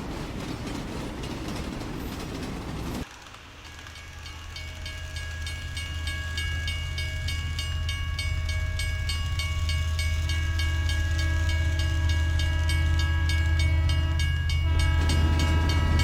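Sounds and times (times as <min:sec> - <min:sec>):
train electric whine: 0:00.0 - 0:16.0
wheels clicking on rails: 0:00.0 - 0:16.0.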